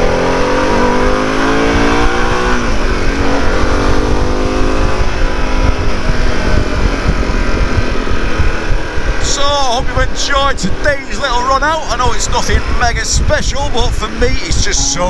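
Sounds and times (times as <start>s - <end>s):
motorcycle engine accelerating: 0.0s - 14.8s
wind rush: 0.0s - 15.0s.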